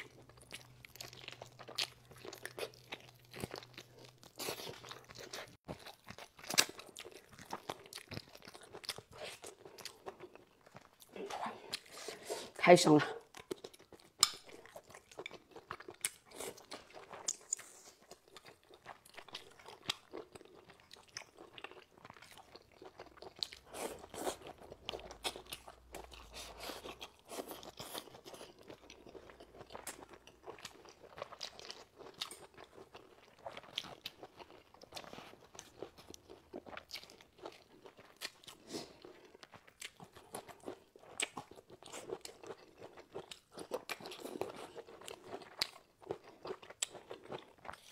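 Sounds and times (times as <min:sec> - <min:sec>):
person chewing crunchy vegetables: 0:00.0 - 0:12.6, 0:13.2 - 0:47.9.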